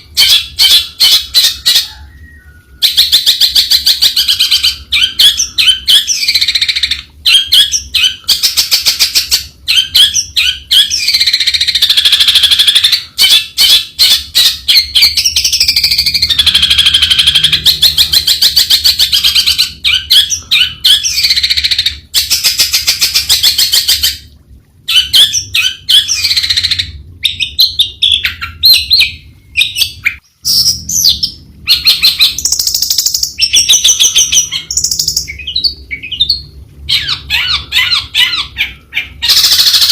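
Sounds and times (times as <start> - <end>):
bird singing chattering song: 0.0 - 24.2, 24.9 - 39.9.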